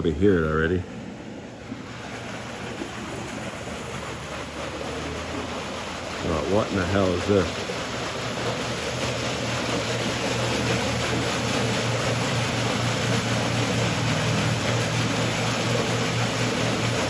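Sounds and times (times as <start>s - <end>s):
steady low hum: 0.0s - 17.0s
water churning in pool: 0.0s - 17.0s.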